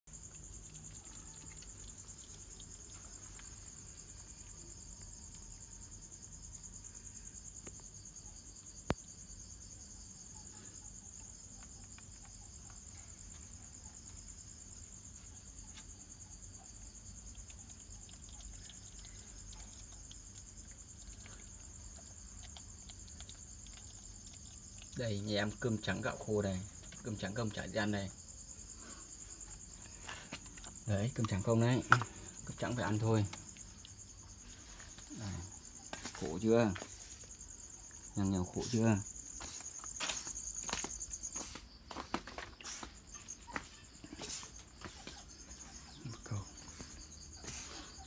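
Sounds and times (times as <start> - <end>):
crickets chirring: 0.1 - 48.0.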